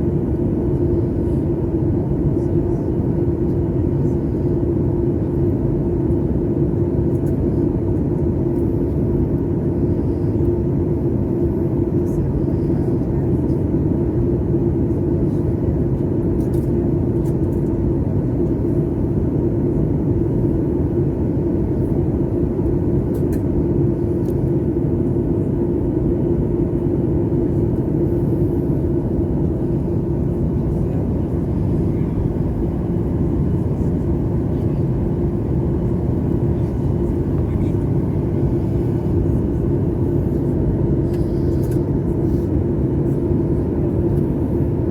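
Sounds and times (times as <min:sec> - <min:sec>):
jet engine and airflow rumble: 0:00.0 - 0:44.9.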